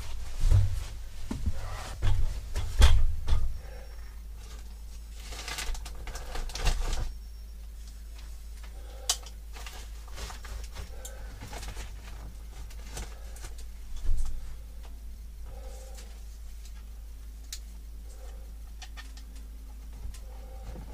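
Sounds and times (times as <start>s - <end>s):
wiring rustling and scraping: 0.0s - 20.9s.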